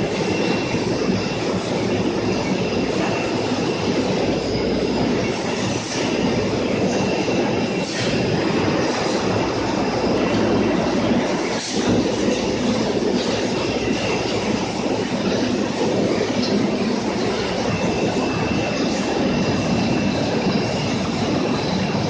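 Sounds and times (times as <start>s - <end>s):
machinery metallic clatter: 0.0s - 22.0s.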